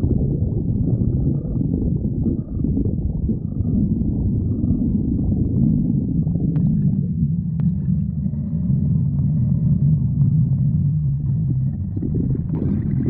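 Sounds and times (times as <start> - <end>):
stomach growling: 0.0 - 13.0.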